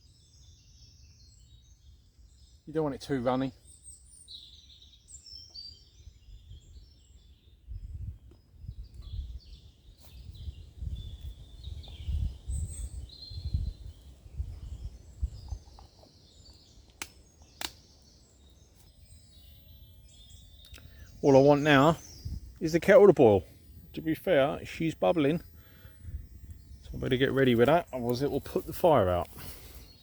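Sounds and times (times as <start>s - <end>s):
small birds chirping and singing: 0.0s - 30.0s.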